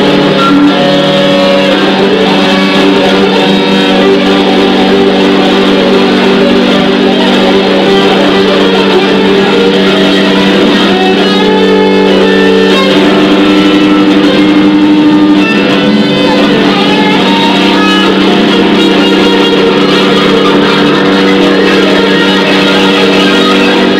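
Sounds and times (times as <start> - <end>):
amplified guitar noise drone: 0.0 - 23.9.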